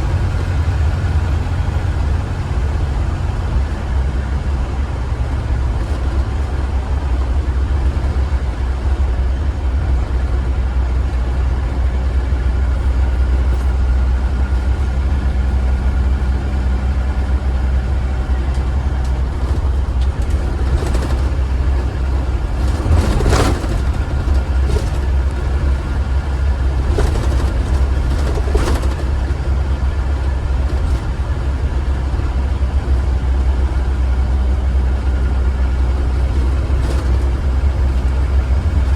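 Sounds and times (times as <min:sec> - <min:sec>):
bus engine droning: 0:00.0 - 0:38.9.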